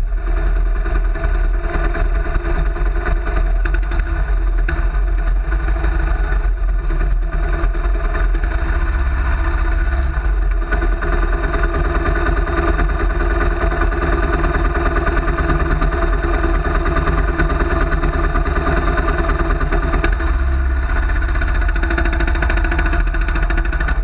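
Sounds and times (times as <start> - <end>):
motorcycle engine running steadily: 0.0 - 24.0.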